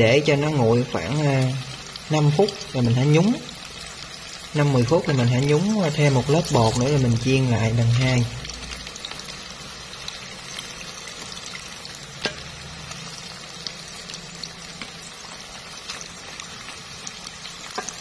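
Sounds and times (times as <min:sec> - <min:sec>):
oil sizzling and crackling: 0:00.0 - 0:18.0.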